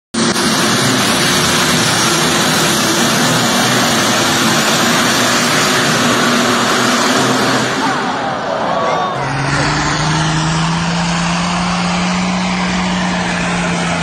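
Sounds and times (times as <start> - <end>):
tractor engine at full throttle: 0.1 - 14.0.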